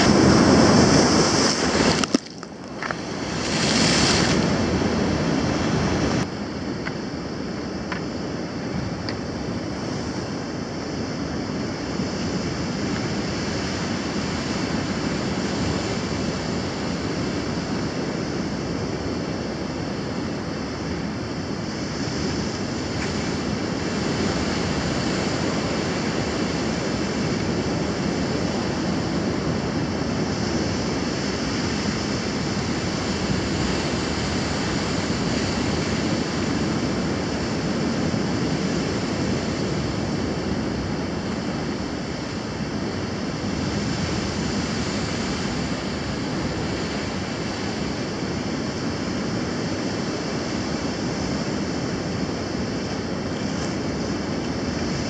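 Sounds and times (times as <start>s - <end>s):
ocean surf breaking over rocks: 0.0s - 55.0s.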